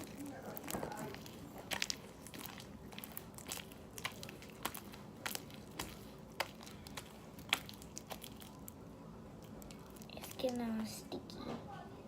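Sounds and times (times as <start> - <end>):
slime clicking and crackling: 0.0 - 11.1.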